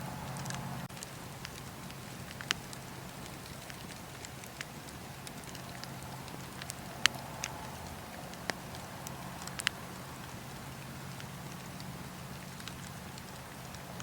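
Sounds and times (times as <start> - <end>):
low hiss of fire: 0.0 - 14.0
wood fire crackling and popping: 0.0 - 14.0.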